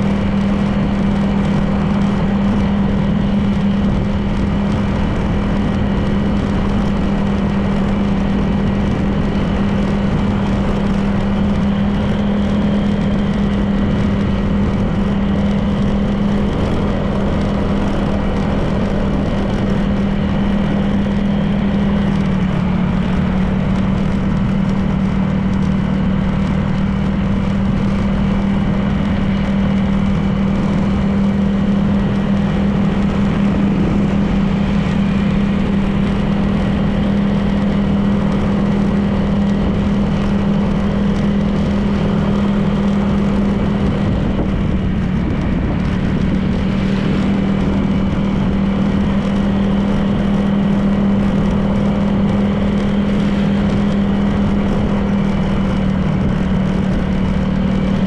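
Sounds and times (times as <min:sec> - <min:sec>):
road and wind noise: 0:00.0 - 0:58.0
scooter engine running: 0:00.0 - 0:58.0.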